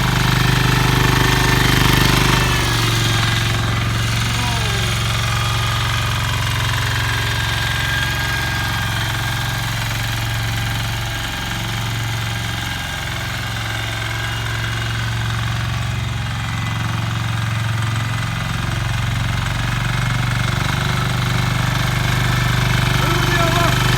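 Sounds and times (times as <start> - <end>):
tiller engine running: 0.0 - 23.9.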